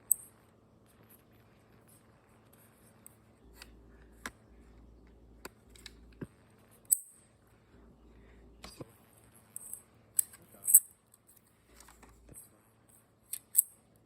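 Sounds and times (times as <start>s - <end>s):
faint background hum: 0.0s - 14.0s.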